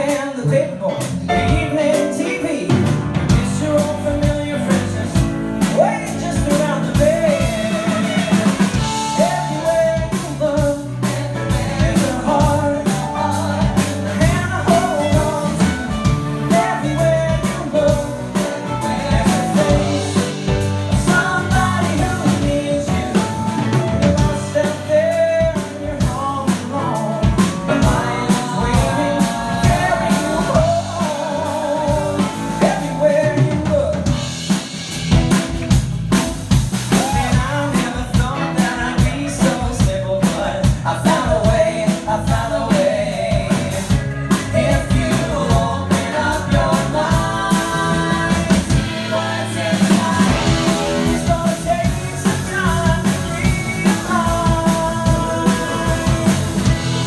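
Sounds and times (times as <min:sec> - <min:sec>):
man singing: 0:00.0 - 0:34.6, 0:36.8 - 0:57.0
drums keeping a steady beat: 0:00.0 - 0:57.0
piano: 0:00.0 - 0:57.0
upright bass: 0:00.0 - 0:57.0.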